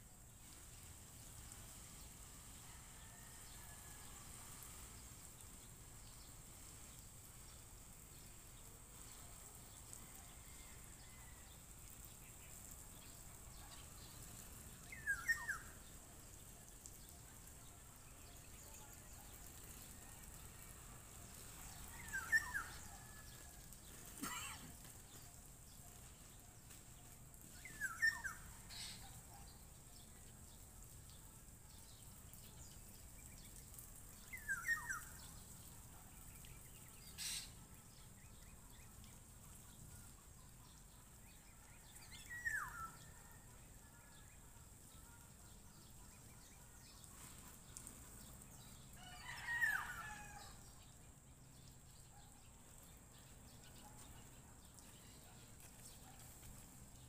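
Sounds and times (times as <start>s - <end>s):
faint outdoor background: 0.0s - 57.0s.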